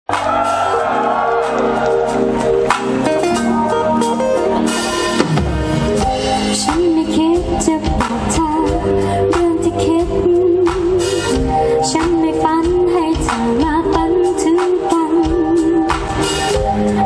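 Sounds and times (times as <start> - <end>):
live pop band playing: 0.1 - 17.0.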